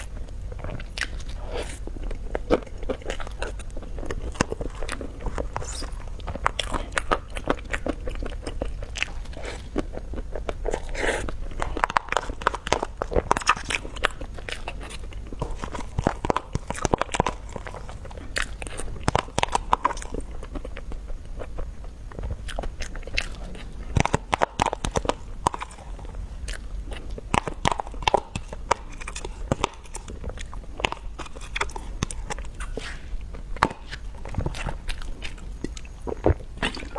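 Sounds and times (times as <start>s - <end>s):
person biting and chewing food: 0.0s - 36.9s.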